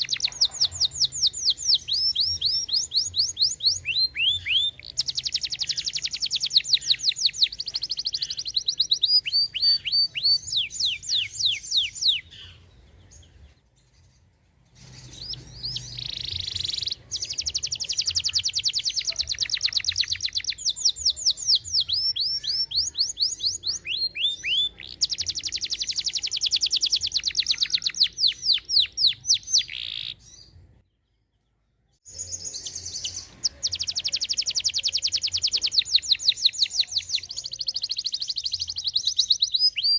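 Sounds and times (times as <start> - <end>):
canary singing trills: 0.0 - 31.1, 32.0 - 39.9.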